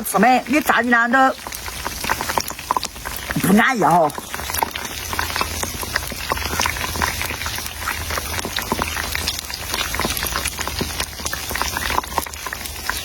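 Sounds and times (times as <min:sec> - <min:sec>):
food crackling and bubbling: 0:00.0 - 0:13.0.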